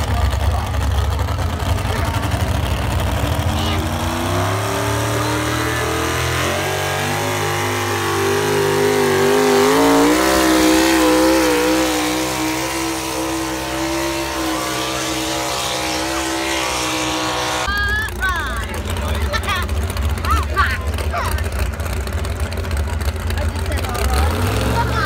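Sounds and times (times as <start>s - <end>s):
truck engine running hard: 0.0s - 25.0s.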